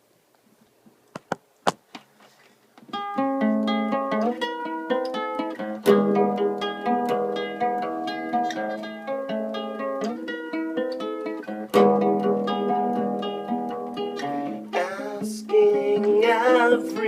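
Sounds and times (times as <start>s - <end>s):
plucked string instrument: 2.9s - 17.0s.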